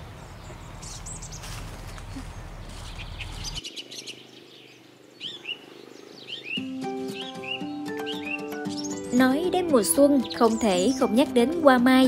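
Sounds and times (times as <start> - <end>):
birds chirping: 0.0 - 12.0
low outdoor background: 0.0 - 12.0.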